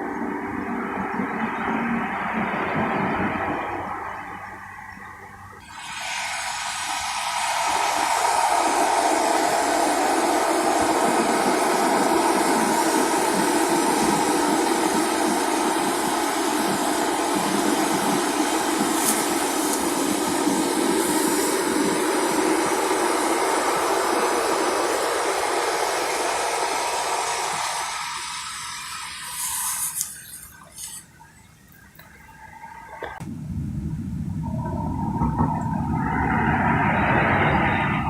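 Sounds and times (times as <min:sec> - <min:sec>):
loud steady rushing noise: 0:00.0 - 0:31.0, 0:32.4 - 0:38.0.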